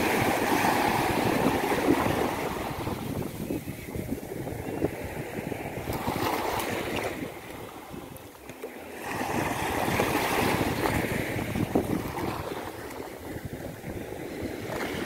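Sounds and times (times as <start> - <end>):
sea waves breaking on sand: 0.0 - 3.4, 4.2 - 15.0.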